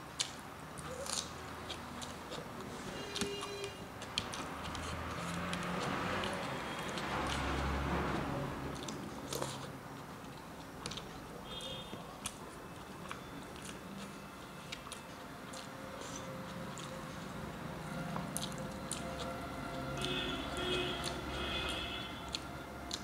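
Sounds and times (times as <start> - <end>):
chewing rice: 0.0 - 23.0.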